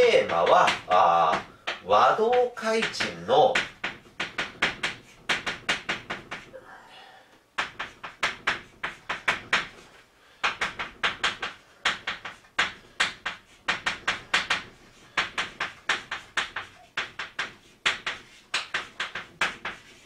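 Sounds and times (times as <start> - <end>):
chalk tapping and scraping on blackboard: 0.0 - 6.6, 7.6 - 20.0.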